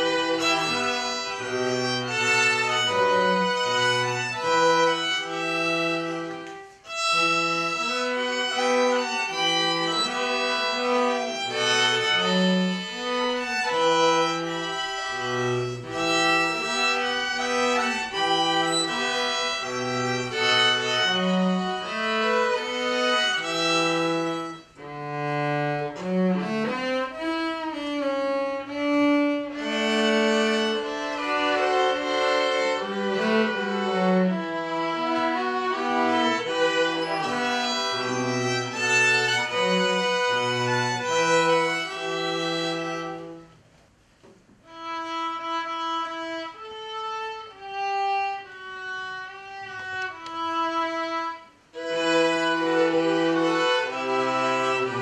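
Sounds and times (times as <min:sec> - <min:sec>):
string quartet playing: 0:00.0 - 0:55.0.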